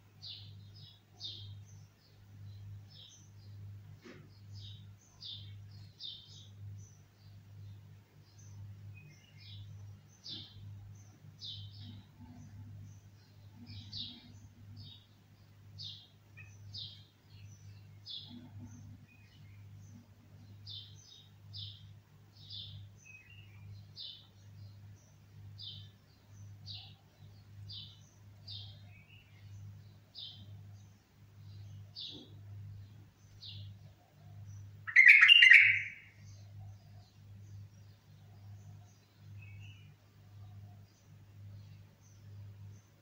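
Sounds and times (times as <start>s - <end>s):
steady low hum: 0.0s - 35.2s
bird chirping: 0.2s - 43.0s.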